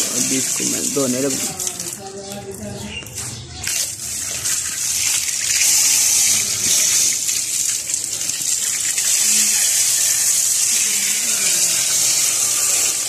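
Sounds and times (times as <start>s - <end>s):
hose water spraying: 0.0s - 2.0s, 3.6s - 13.0s.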